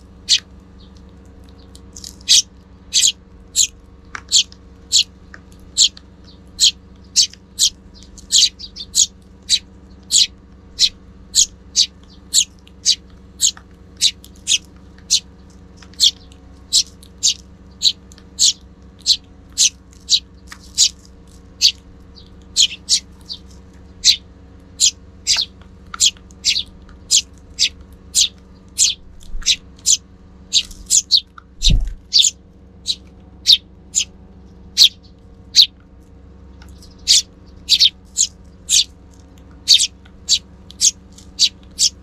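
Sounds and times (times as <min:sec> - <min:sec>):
sparrows chirping: 0:00.0 - 0:42.0.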